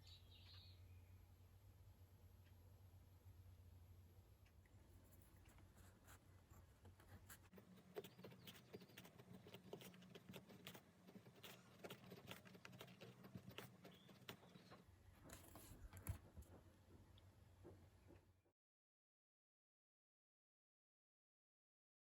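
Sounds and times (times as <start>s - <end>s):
low steady hum: 0.0s - 18.4s.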